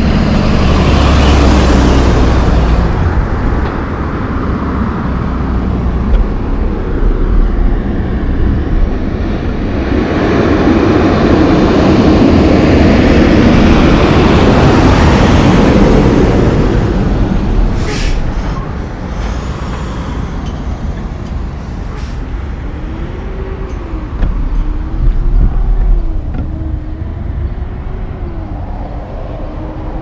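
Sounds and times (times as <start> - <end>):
traffic noise: 0.0 - 30.0
truck approaching: 0.0 - 30.0
truck passing by: 0.0 - 30.0.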